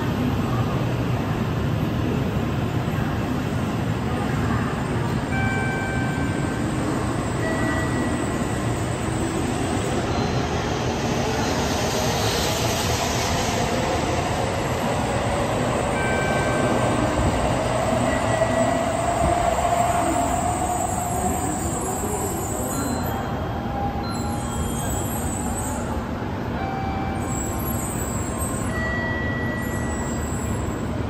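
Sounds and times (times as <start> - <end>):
train whine: 4.1 - 31.0.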